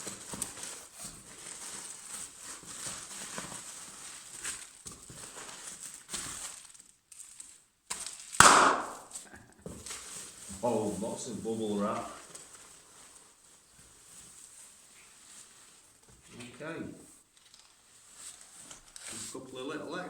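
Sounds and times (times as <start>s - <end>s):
packaging rustling and crinkling: 0.0s - 20.0s.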